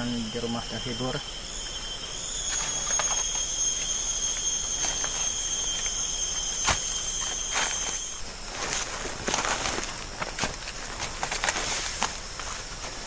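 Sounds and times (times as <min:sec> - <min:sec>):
high-pitched insect call: 0:00.0 - 0:13.0.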